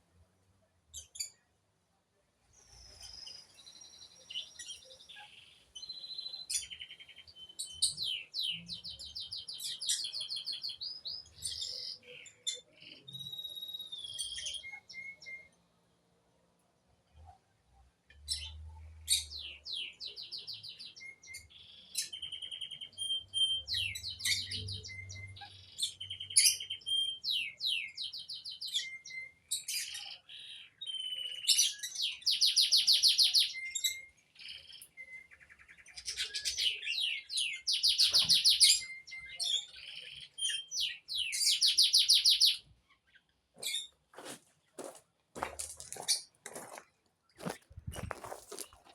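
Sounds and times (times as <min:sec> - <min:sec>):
songbirds singing and calling: 0:00.0 - 0:48.9.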